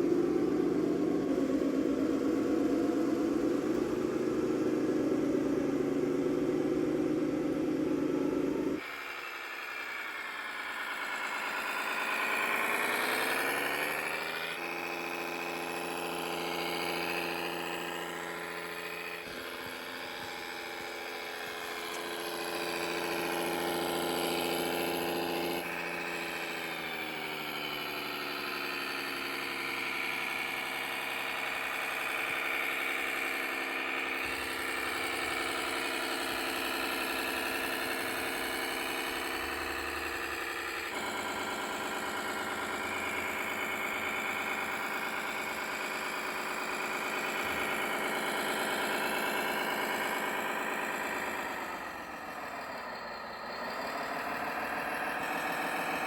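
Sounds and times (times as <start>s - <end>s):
model diesel engine sound revving: 0.0s - 56.0s.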